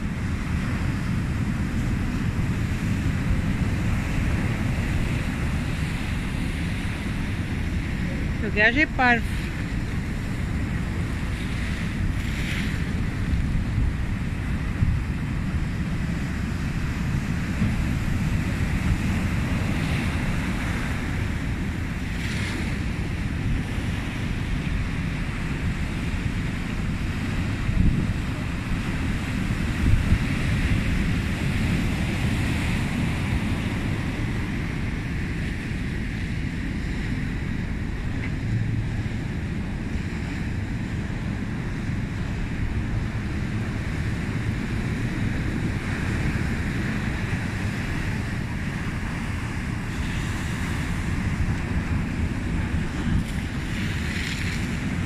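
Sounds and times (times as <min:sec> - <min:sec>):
sea surf breaking on rocks: 0:00.0 - 0:55.0
wind buffeting microphone: 0:00.0 - 0:55.0.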